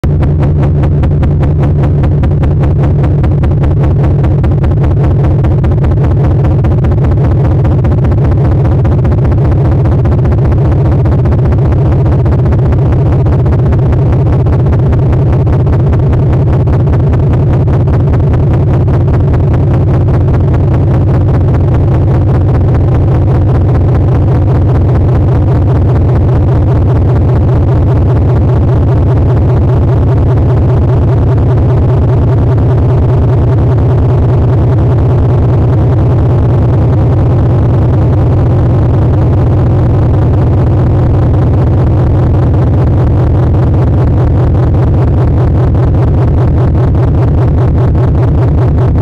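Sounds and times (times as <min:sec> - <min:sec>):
low pulsing drone: 0:00.0 - 0:49.0.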